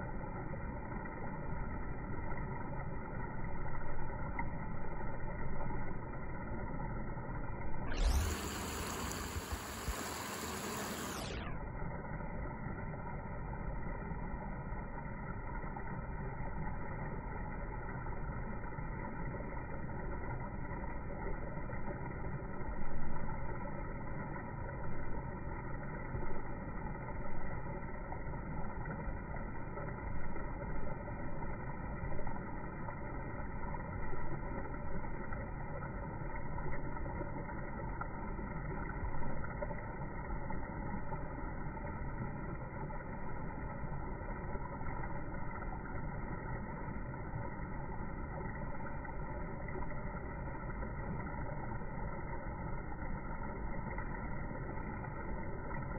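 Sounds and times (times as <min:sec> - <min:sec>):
low rumbling background noise: 0:00.0 - 0:55.9.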